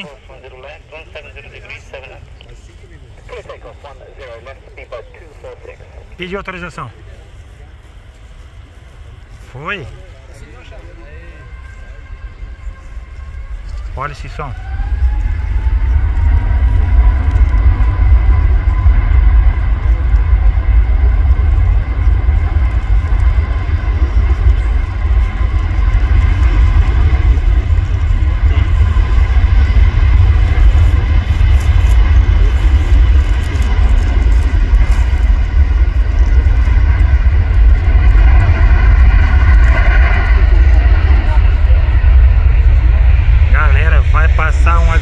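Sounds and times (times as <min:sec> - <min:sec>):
jet engines at takeoff thrust: 0:00.0 - 0:45.0.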